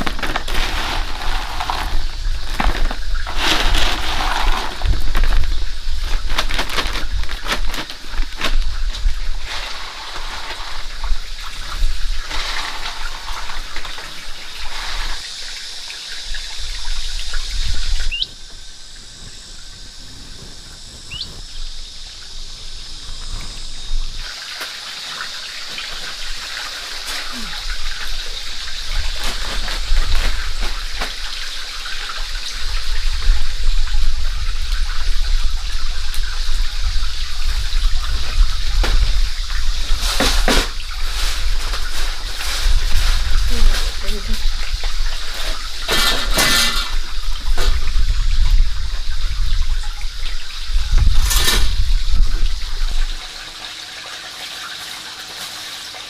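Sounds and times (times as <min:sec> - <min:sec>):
water splashing and trickling: 0:00.0 - 0:19.1, 0:21.1 - 0:56.0.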